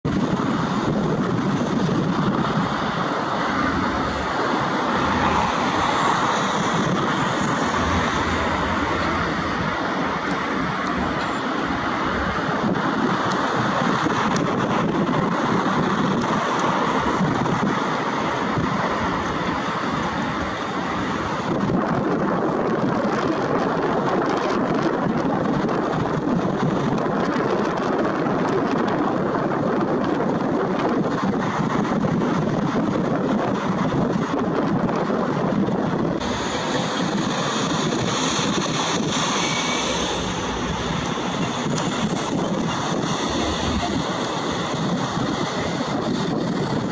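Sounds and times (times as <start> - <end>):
distant jet engine roar: 0.0 - 46.9
high jet engine whine: 0.0 - 46.9
wind on microphone: 0.0 - 46.9.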